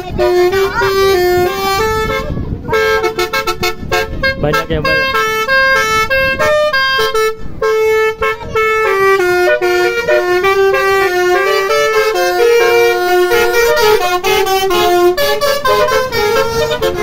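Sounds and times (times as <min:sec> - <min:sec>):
musical horn playing a melody: 0:00.0 - 0:17.0.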